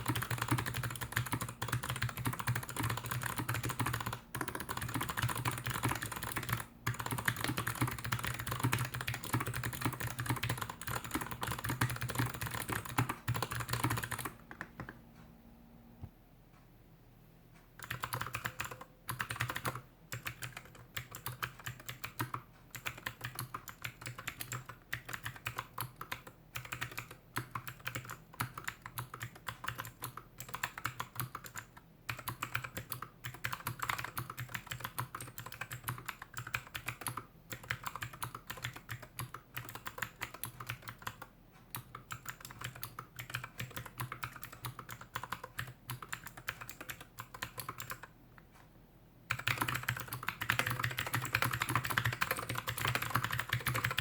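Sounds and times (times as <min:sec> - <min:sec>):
clicky keyboard typing: 0:00.0 - 0:15.0, 0:17.8 - 0:48.7, 0:49.3 - 0:54.0.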